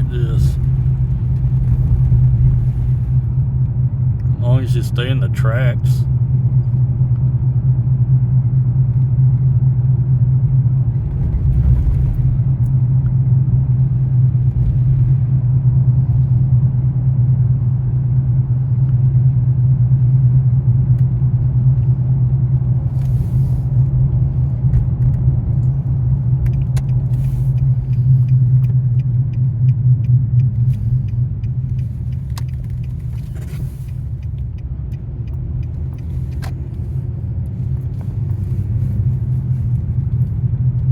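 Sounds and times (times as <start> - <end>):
car driving on slushy road: 0.0 - 7.3, 8.0 - 40.9.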